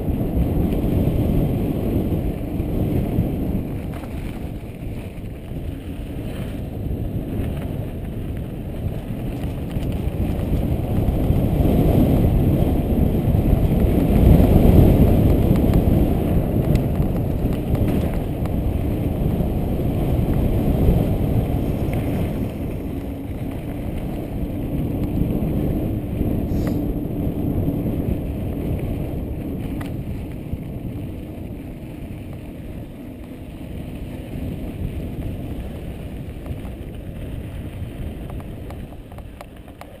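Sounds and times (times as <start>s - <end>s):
bicycle tyres rolling on dirt: 0.0s - 40.0s
wind buffeting microphone: 0.0s - 40.0s.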